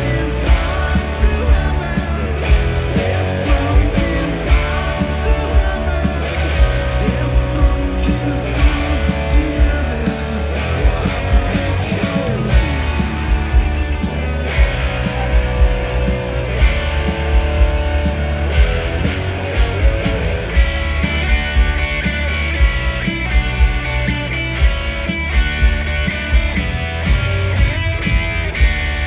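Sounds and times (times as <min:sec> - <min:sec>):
bass: 0:00.0 - 0:29.0
drums: 0:00.0 - 0:29.0
electric guitars: 0:00.0 - 0:29.0.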